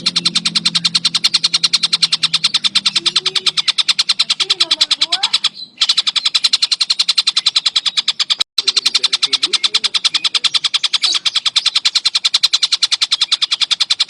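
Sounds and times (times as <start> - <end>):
bird rattling call: 0.0 - 14.0.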